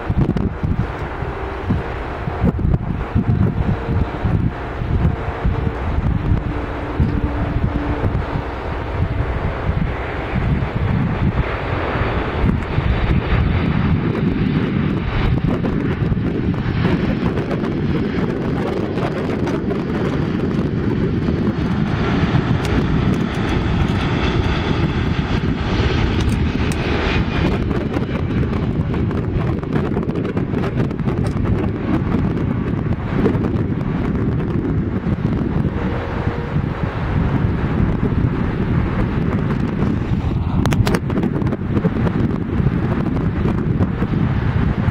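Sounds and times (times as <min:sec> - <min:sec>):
jet engine whine: 0:00.0 - 0:44.9
jet noise: 0:00.0 - 0:44.9.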